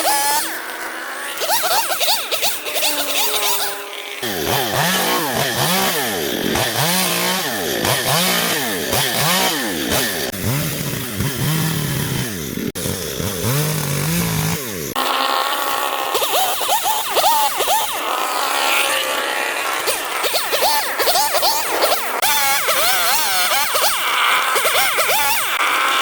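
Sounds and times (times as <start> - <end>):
small engine revving: 0.0 - 26.0.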